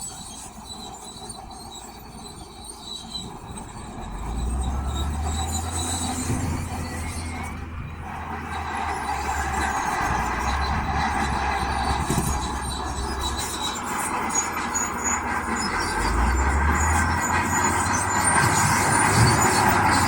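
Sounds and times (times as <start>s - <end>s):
grinding rattling machinery: 0.1s - 20.0s
diesel engine hum: 0.2s - 20.0s.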